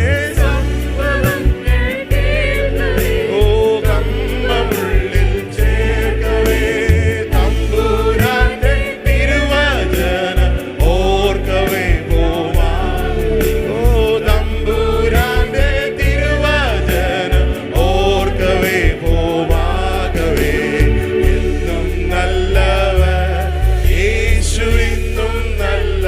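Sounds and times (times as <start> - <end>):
band with bass and drums: 0.0 - 26.0
person singing worship song: 0.0 - 26.0.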